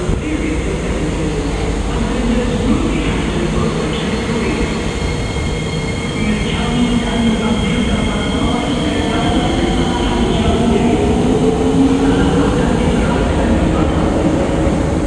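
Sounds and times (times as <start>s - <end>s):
metro train running: 0.0s - 15.0s.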